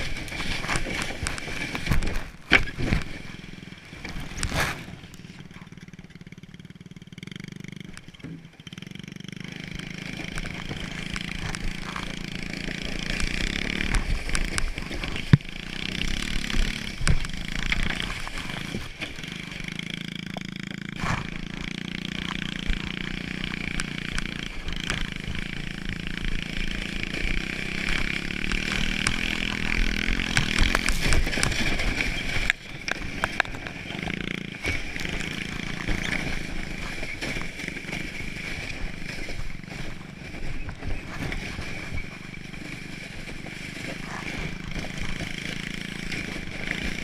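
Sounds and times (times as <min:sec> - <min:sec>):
motorbike engine running: 0:00.0 - 0:47.0.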